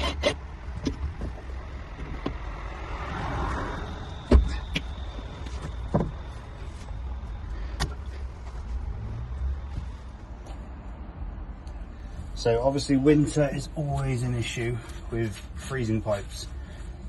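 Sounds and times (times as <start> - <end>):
steady low rumble: 0.4 - 17.0.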